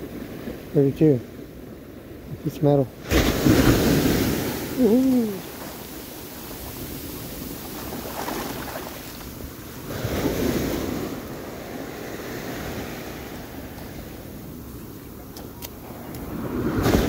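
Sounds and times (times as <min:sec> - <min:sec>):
ocean surf washing up beach: 0:00.0 - 0:17.0.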